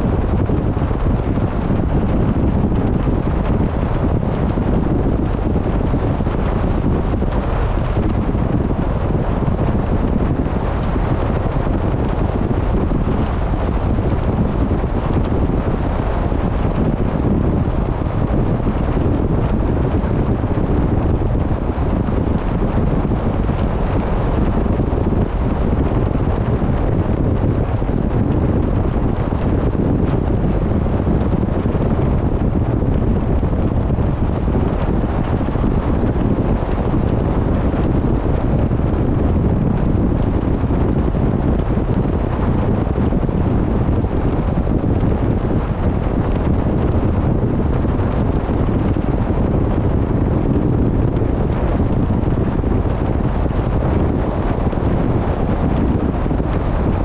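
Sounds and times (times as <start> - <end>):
sea rushing alongside boat: 0.0 - 57.0
wind rumbling on microphone: 0.0 - 57.0.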